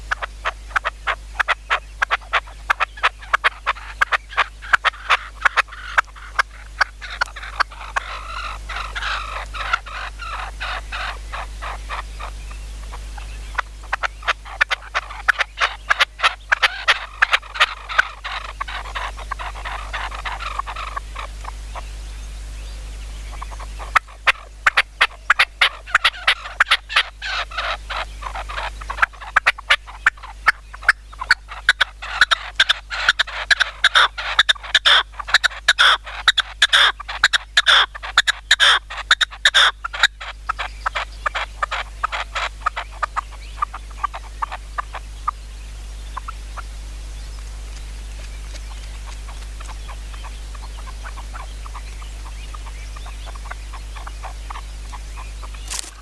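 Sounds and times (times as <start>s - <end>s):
partridges calling: 0.0s - 56.0s.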